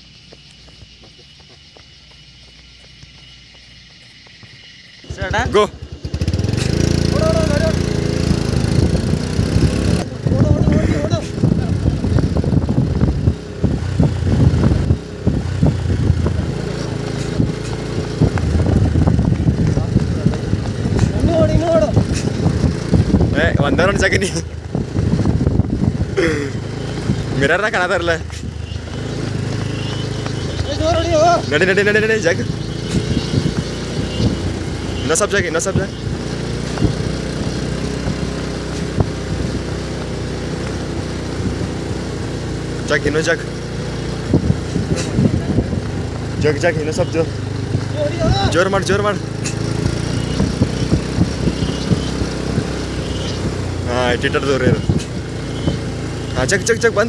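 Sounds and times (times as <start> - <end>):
footsteps on dirt track: 0.0 - 57.0
vehicle engine humming: 0.0 - 57.0.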